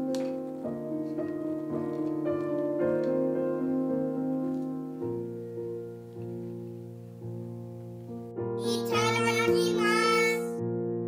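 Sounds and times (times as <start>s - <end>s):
piano music with slow held notes: 0.0s - 11.0s.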